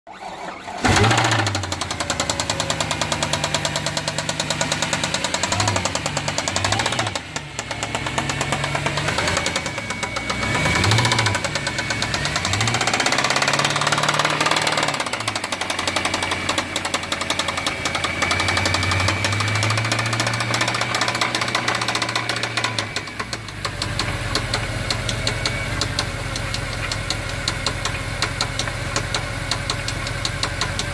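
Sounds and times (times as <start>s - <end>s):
car engine running: 0.8s - 30.9s.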